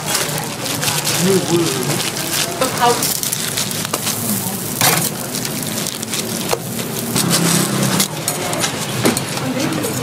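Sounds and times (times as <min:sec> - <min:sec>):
food sizzling in oil: 0:00.0 - 0:08.9.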